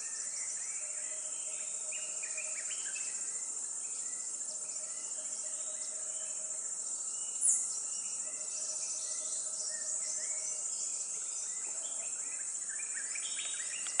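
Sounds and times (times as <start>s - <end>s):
insects chirping: 0.1s - 14.0s.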